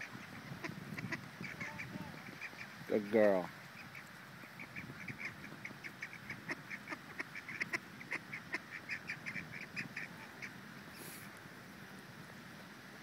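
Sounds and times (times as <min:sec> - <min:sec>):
ducks calling: 0:00.0 - 0:11.2.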